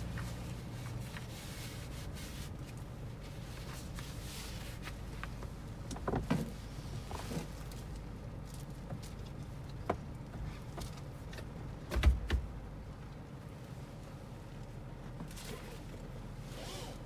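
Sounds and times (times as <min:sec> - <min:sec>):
car cabin road rumble: 0:00.0 - 0:15.4.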